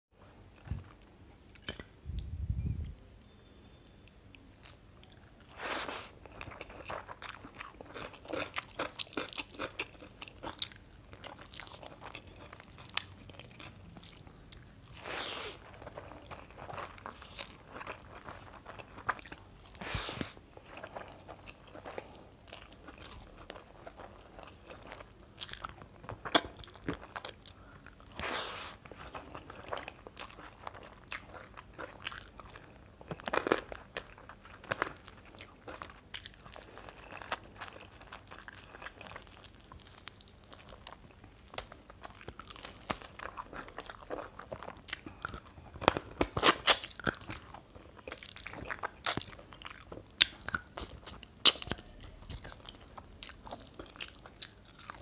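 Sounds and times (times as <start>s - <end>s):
chewing food: 0.5s - 2.3s, 4.0s - 55.0s.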